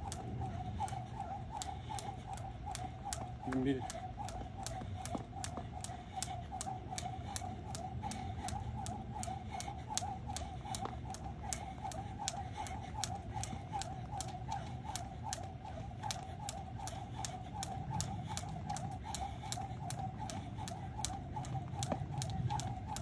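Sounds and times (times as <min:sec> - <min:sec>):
skipping rope hitting pavement: 0:00.0 - 0:23.0.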